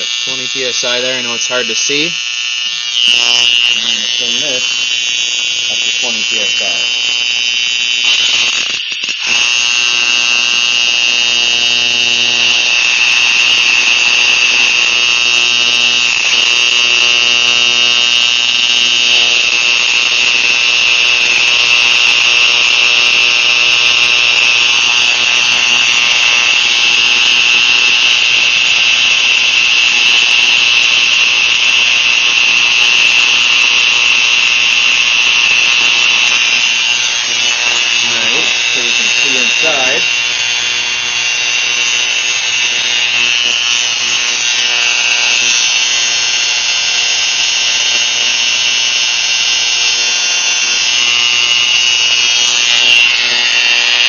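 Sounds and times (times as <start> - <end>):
high-pitched buzzing hiss: 0.0 - 54.0.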